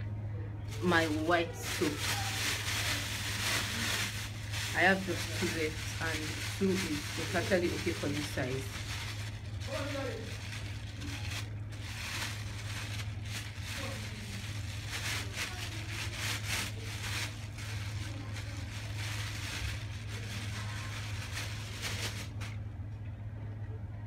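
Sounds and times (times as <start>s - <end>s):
steady low hum: 0.0s - 24.0s
plastic bag rustling: 0.7s - 22.6s.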